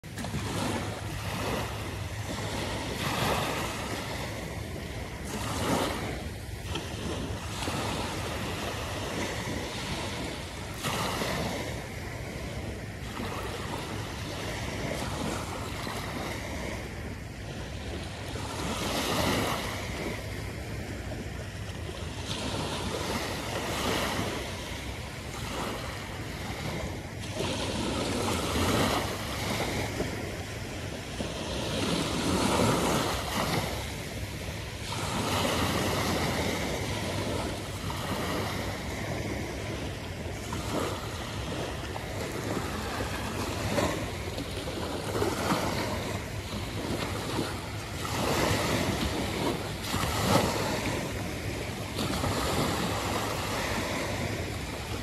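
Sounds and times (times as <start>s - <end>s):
small waves breaking on sand: 0.0s - 55.0s.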